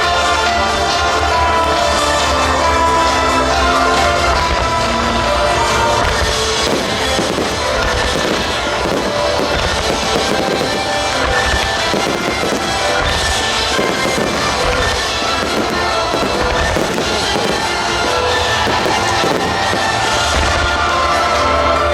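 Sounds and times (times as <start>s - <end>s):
fireworks bursting and crackling: 0.0s - 21.9s
music: 0.0s - 21.9s.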